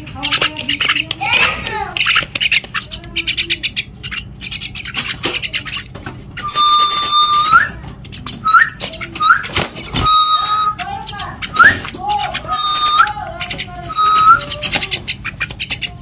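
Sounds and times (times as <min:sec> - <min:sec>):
myna bird calling: 0:00.0 - 0:16.0.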